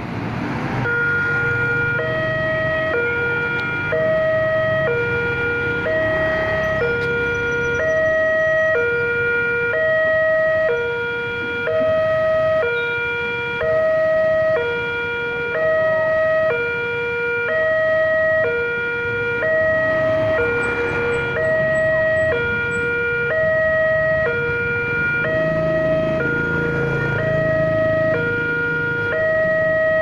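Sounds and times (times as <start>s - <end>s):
level crossing two-tone alarm: 0.8s - 30.0s.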